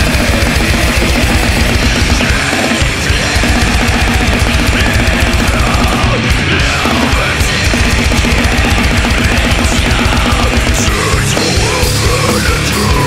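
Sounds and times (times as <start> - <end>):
bass guitar: 0.0 - 13.0
distorted electric guitar: 0.0 - 13.0
very fast drumming: 0.0 - 13.0.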